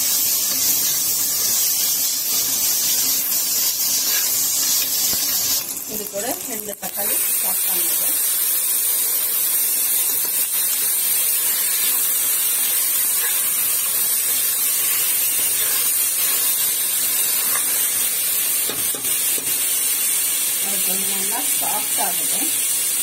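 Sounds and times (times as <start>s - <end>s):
vegetables frying in hot oil: 0.0s - 23.0s.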